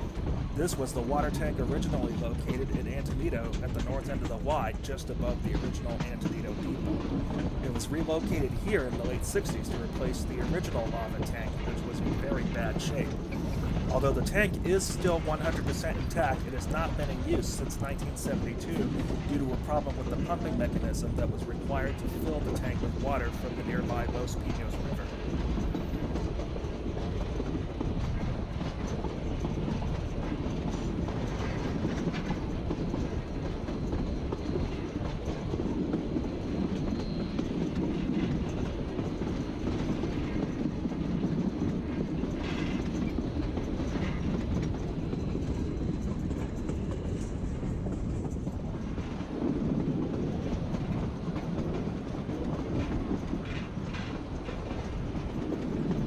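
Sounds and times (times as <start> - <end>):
clicks and clatter over track: 0.0 - 56.0
train wheels rumbling on rails: 0.0 - 56.0.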